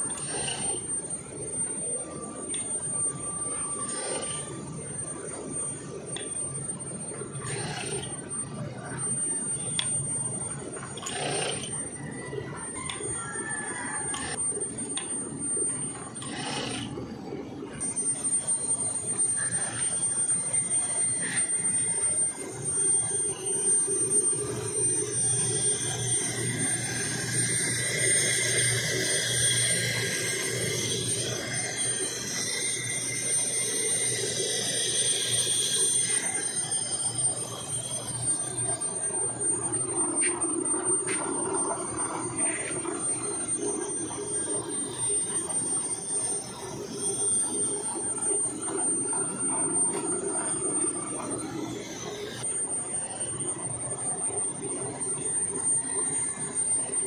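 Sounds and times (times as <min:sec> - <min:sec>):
lathe cutting metal: 0:00.0 - 0:12.0, 0:14.0 - 0:53.8.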